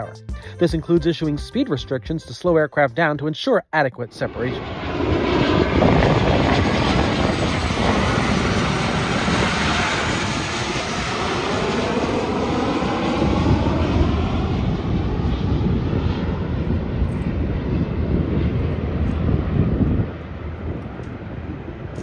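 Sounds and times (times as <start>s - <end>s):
jet plane passing overhead: 4.0s - 22.0s.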